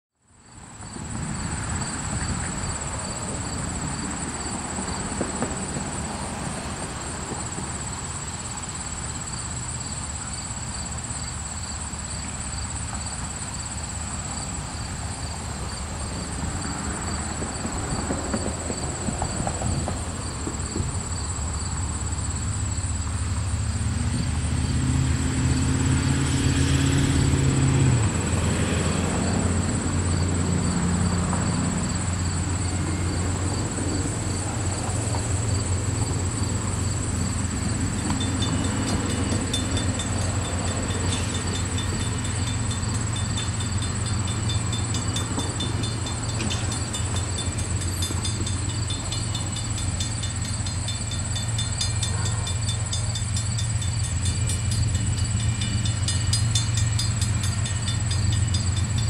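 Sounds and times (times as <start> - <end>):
locomotive engines droning: 0.2 - 59.0
insects chirping: 0.3 - 59.0.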